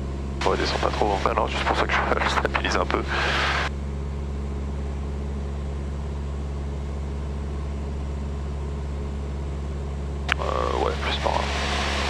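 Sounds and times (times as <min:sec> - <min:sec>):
aircraft engine and propeller hum: 0:00.0 - 0:12.0.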